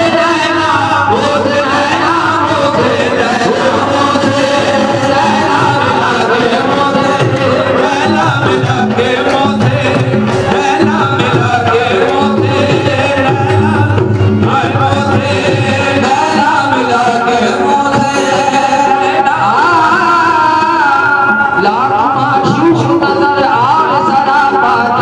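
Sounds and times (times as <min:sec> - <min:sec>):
harmonium: 0:00.0 - 0:25.0
tabla: 0:00.0 - 0:25.0
voices singing: 0:00.0 - 0:25.0.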